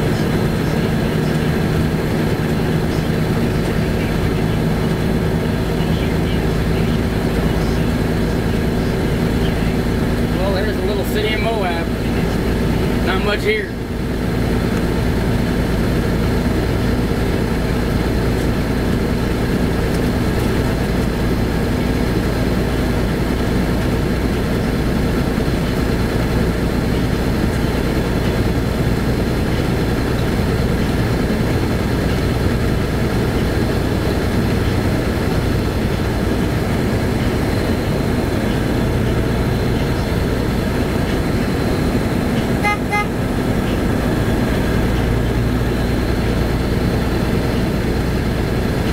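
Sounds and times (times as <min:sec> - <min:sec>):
road noise: 0:00.0 - 0:48.9
vehicle engine drone: 0:00.0 - 0:48.9.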